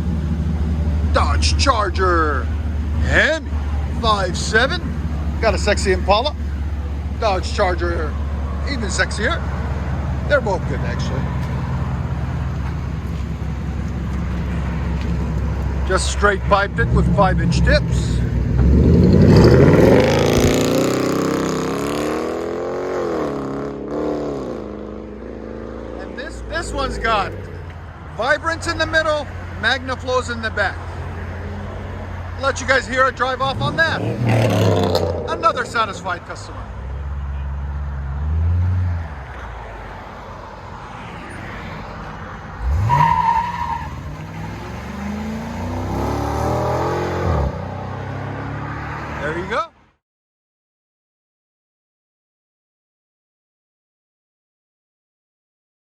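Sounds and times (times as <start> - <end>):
car engine revving: 0.0 - 49.6.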